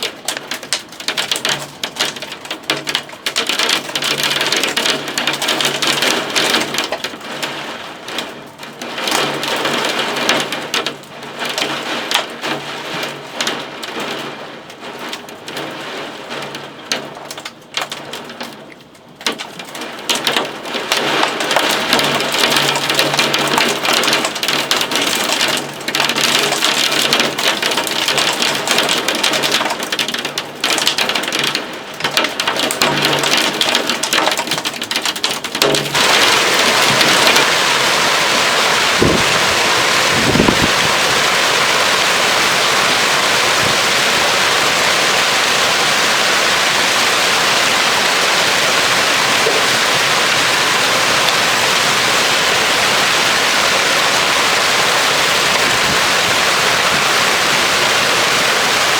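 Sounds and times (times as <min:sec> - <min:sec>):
heavy rain drumming on surfaces: 0:00.0 - 0:58.9.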